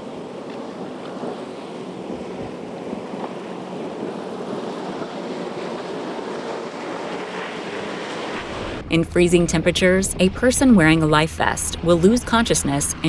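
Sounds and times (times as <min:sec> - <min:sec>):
water rushing around boat: 0:00.0 - 0:13.0
wind buffeting microphone: 0:00.0 - 0:13.0.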